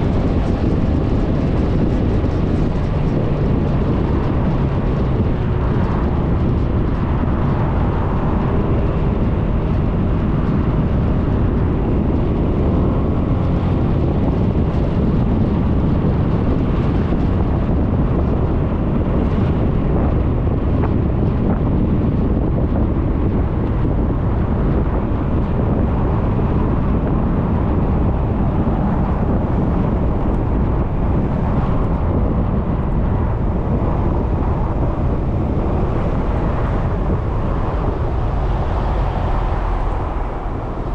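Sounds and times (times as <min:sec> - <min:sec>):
road noise: 0:00.0 - 0:40.9
wind rushing over microphone: 0:00.0 - 0:40.9.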